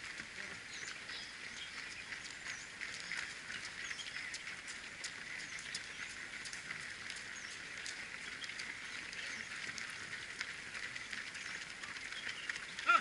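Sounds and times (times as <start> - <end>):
runners' footsteps on road: 0.0 - 13.0
birds chirping: 0.2 - 13.0.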